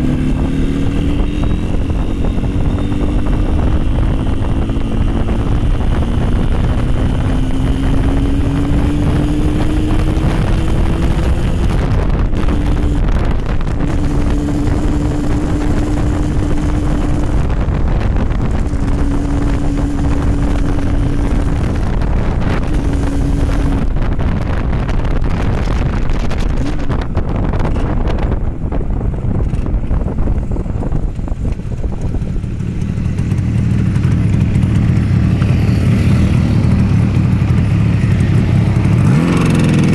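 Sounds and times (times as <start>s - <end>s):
two-stroke motorcycle engine: 0.0s - 39.9s
wind buffeting on microphone: 0.0s - 39.9s.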